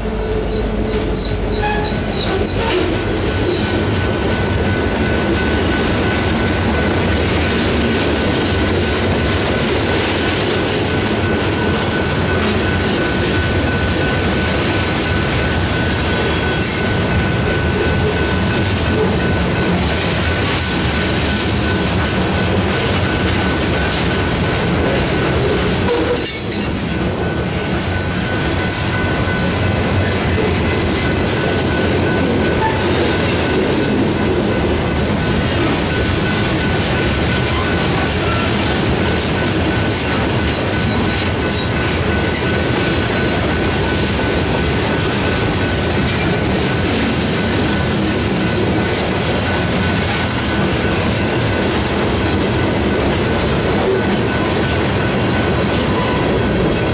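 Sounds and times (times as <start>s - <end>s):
freight train rolling past: 0.0s - 56.9s.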